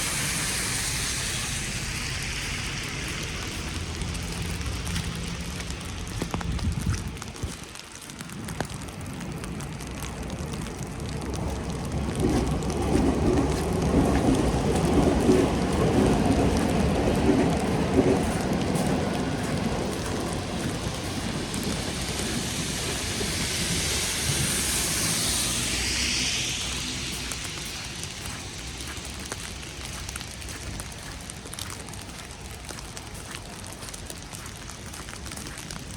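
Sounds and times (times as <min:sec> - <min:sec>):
low rumble: 0:00.0 - 0:07.5, 0:10.3 - 0:31.7
wet snow falling: 0:00.0 - 0:35.9.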